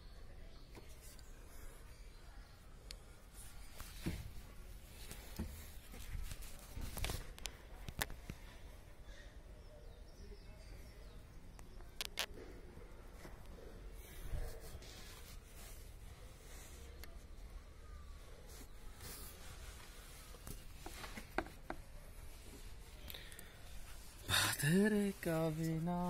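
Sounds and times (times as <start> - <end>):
faint background noise: 0.0 - 26.0.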